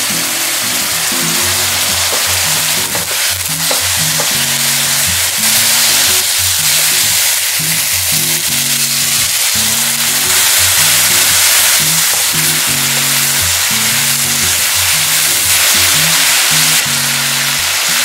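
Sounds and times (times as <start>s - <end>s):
background music with bass: 0.0s - 18.0s
food sizzling in a frying pan: 0.0s - 18.0s.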